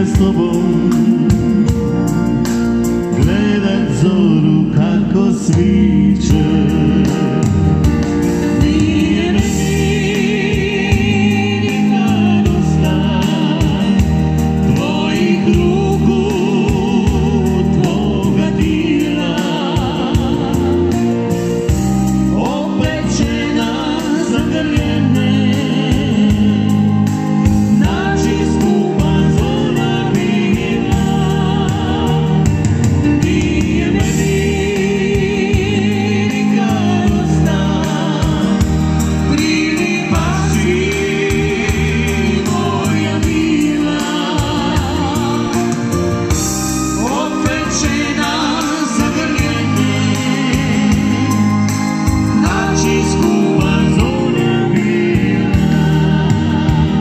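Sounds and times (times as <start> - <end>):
slow folk-pop song: 0.0 - 57.0.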